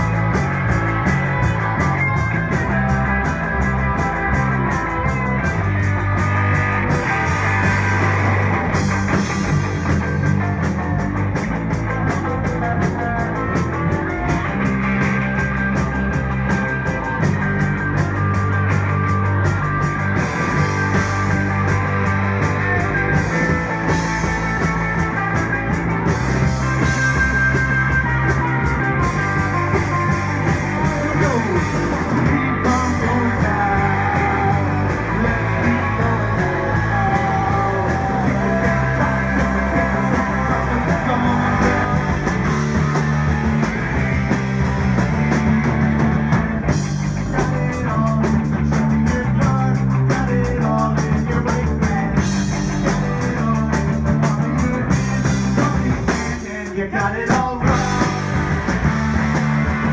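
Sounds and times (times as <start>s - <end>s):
drum kit: 0.0s - 59.9s
electric bass: 0.0s - 59.9s
electric guitars: 0.0s - 59.9s.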